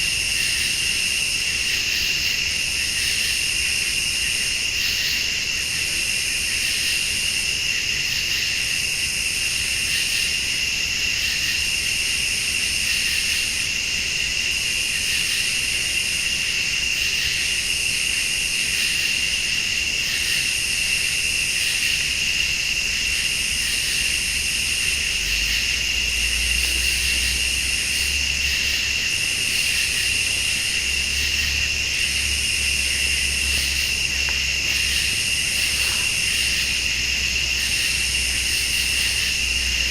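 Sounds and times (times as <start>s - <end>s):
crickets trilling: 0.0s - 39.9s
pulsing high insect call: 0.0s - 39.9s.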